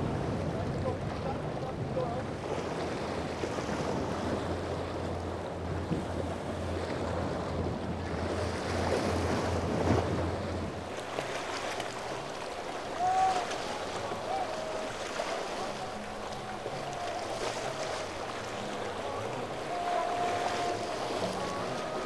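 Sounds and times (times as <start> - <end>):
boat engine drone: 0.0 - 22.0
waves splashing: 0.0 - 22.0
wind on microphone: 0.0 - 22.0.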